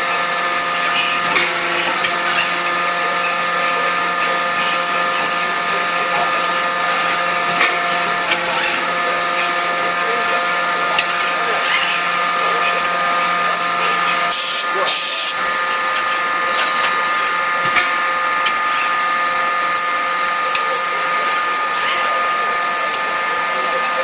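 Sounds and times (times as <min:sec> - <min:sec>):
machinery drone: 0:00.0 - 0:24.0.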